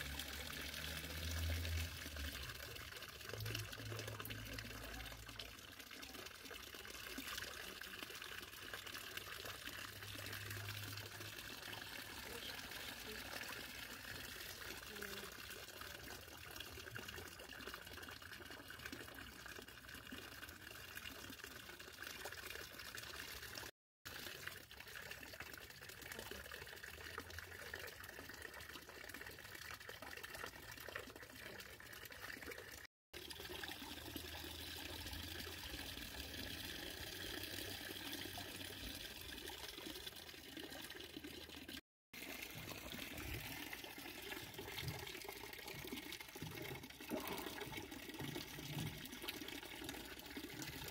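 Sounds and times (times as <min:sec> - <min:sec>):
water trickling into pond: 0:00.0 - 0:50.9.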